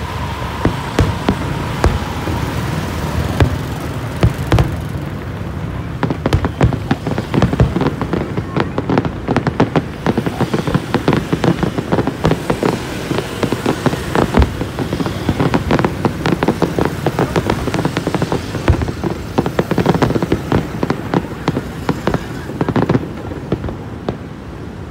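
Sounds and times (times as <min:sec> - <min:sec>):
fireworks popping and crackling: 0:00.0 - 0:24.9
heavy firework bangs: 0:00.0 - 0:24.9.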